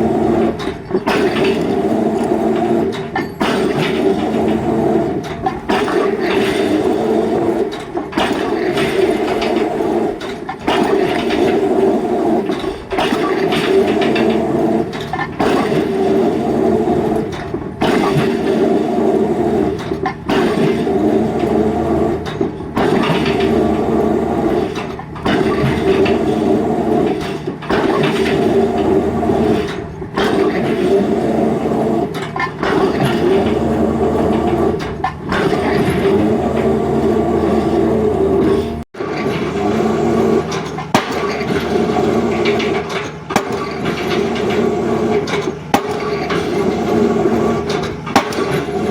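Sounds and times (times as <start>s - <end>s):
drop hammer driving pile: 0.0s - 48.9s.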